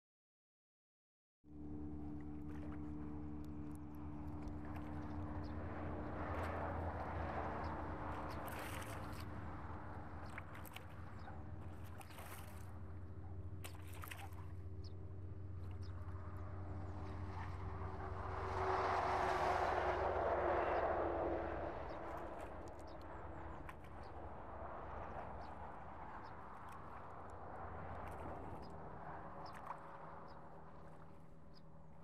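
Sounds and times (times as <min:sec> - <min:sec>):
motorboat engine passing: 0:01.5 - 0:32.0.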